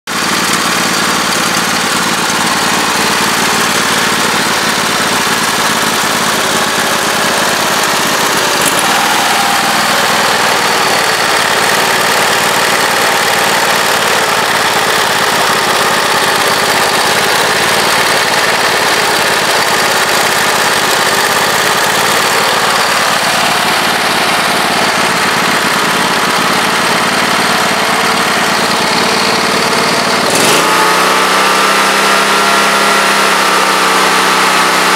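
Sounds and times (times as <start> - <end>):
riding mower engine running: 0.1 - 34.9.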